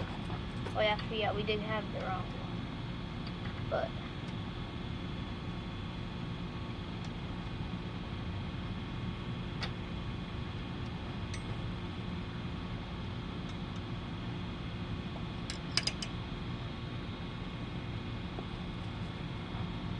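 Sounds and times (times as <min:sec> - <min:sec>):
low background hum: 0:00.0 - 0:19.9.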